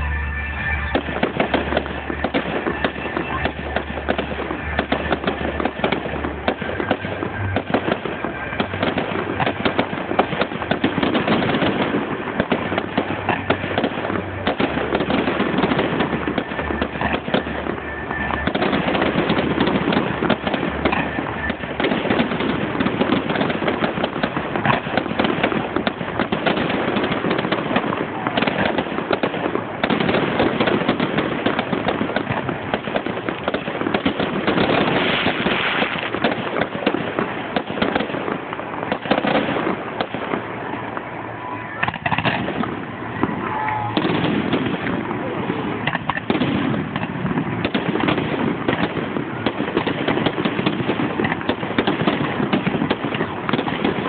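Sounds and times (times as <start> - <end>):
fireworks cracks and bangs: 0.0 - 54.0.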